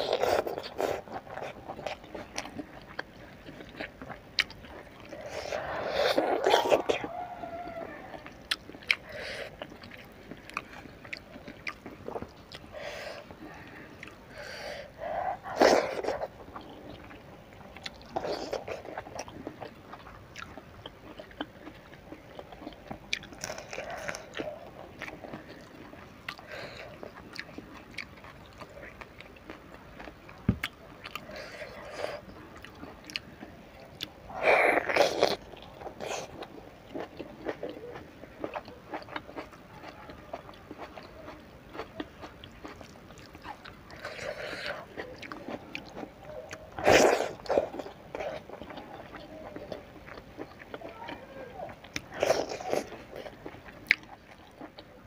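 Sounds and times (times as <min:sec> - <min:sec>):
chewing and mouth sounds: 0:00.0 - 0:55.0.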